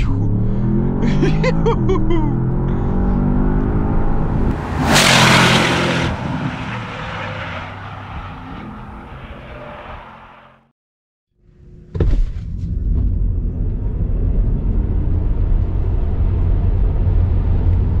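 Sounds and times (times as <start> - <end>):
car engine accelerating hard: 0.0 - 10.7, 13.2 - 18.0.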